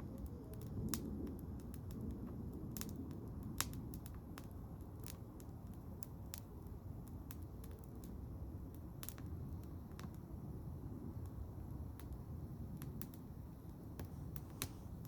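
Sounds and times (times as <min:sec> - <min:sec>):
burning wood popping and crackling: 0:00.0 - 0:15.0
rush of flames: 0:00.0 - 0:15.0.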